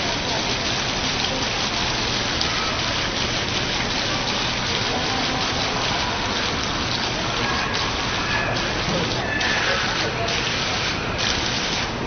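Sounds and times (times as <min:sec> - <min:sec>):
water splashing into basin: 0:00.0 - 0:12.0.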